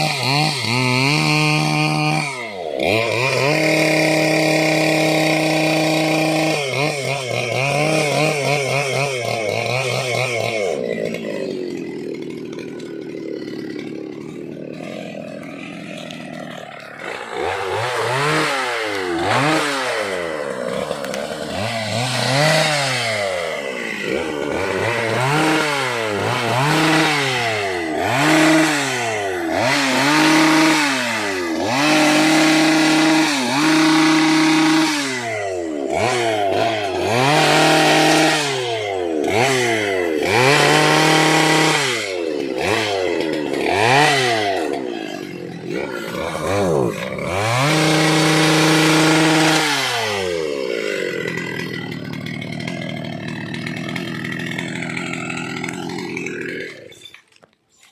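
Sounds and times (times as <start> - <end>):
chainsaw engine revving: 0.0 - 57.9.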